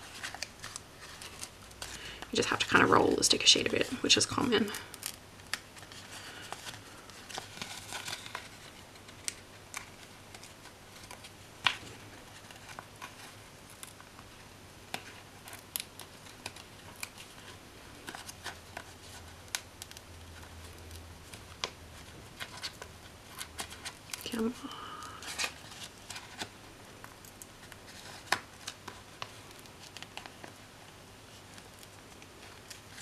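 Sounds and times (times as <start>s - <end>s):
paper crinkling: 0.0s - 33.0s.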